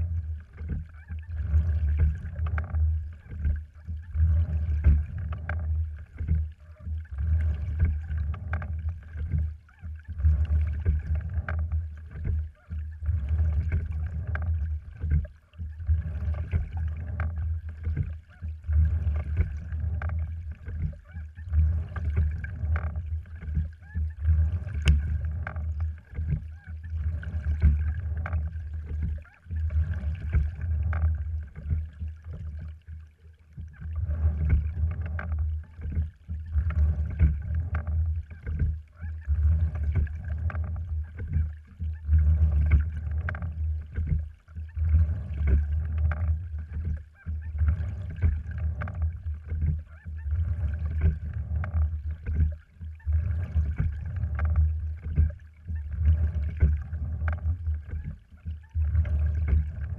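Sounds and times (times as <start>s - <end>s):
water rushing along boat hull: 0.0s - 59.9s.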